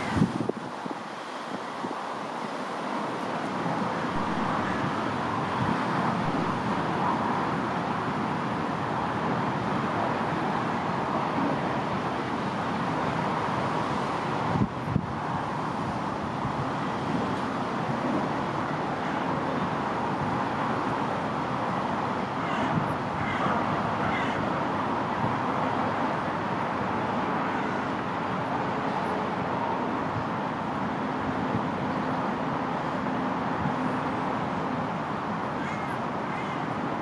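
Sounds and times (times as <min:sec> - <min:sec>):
barge rushing noise: 0:00.0 - 0:37.0.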